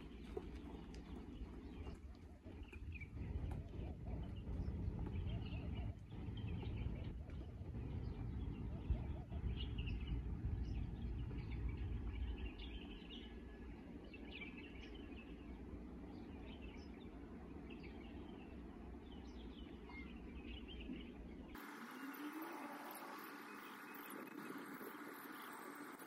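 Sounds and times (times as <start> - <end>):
low rumble: 0.0 - 21.6
small birds chirping: 0.0 - 26.0.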